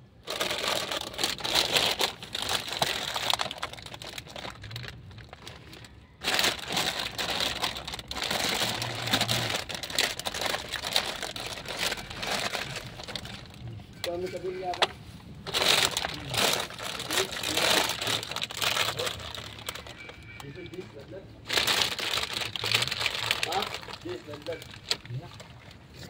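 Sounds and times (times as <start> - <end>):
plastic sack crinkling: 0.2 - 14.3, 15.4 - 20.7, 21.4 - 26.0.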